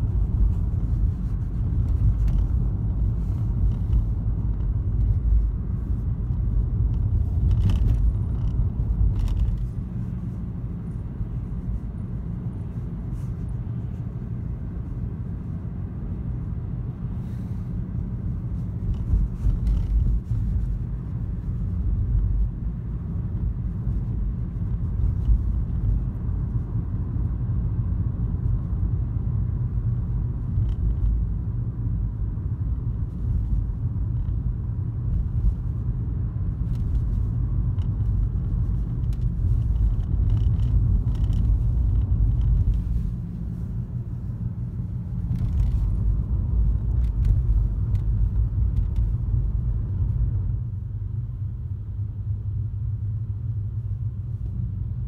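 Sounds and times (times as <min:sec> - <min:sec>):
car cabin road rumble: 0:00.0 - 0:55.0.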